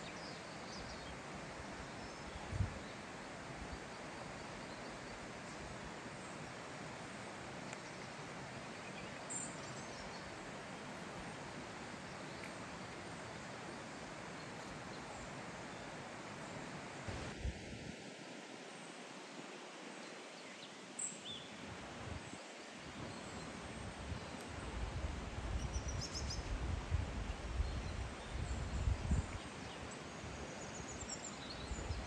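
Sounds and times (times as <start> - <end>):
forest ambience hiss: 0.0 - 32.0.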